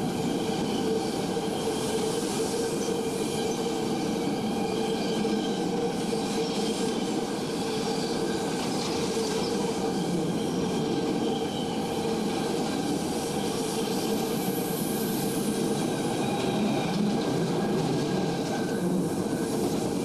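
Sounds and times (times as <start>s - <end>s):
freight train wheels rumbling on rails: 0.0s - 20.0s.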